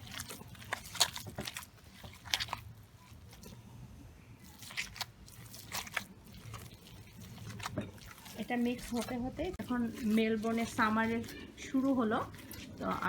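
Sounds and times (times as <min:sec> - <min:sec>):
hands squelching raw mince: 0:00.0 - 0:03.7, 0:04.4 - 0:13.0.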